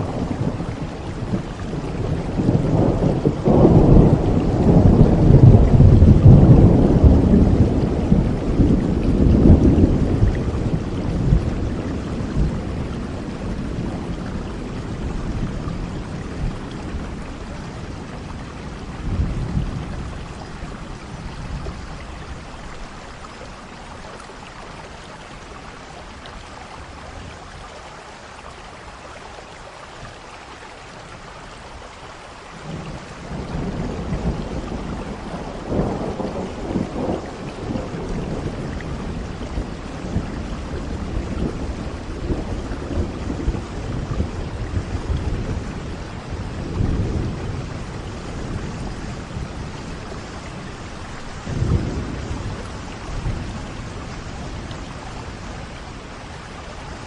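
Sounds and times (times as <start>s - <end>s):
rolling thunder: 0.0s - 22.8s, 32.6s - 57.0s
steady rain falling: 0.0s - 57.0s.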